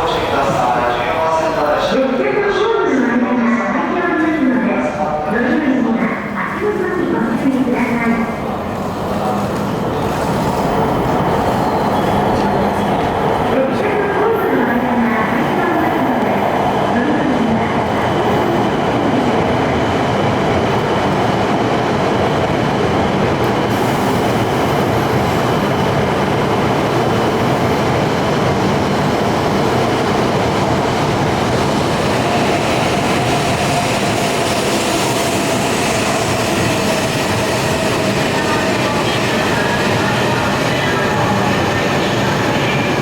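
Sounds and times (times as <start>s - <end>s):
train wheels rumbling: 6.0s - 43.0s.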